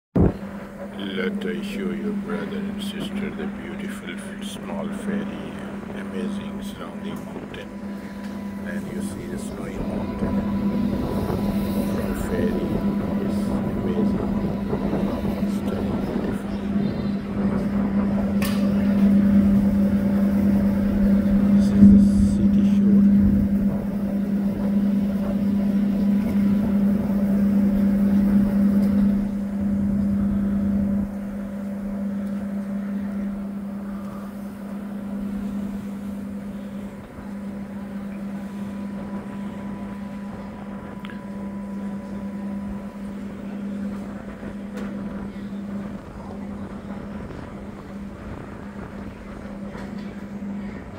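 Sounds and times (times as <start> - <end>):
rushing noise: 0.2 - 49.7
ferry engines droning: 0.2 - 50.9.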